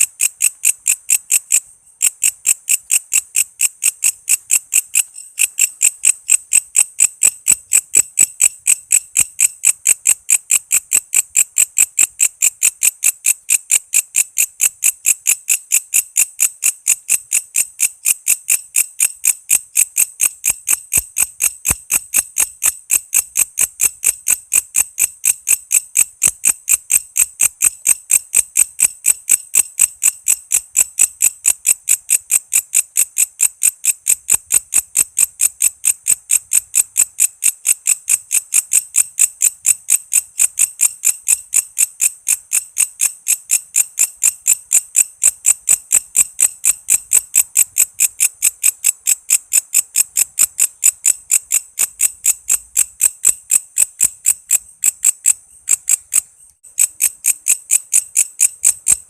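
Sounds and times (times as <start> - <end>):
cicada chirp pulses: 0.0 - 59.0.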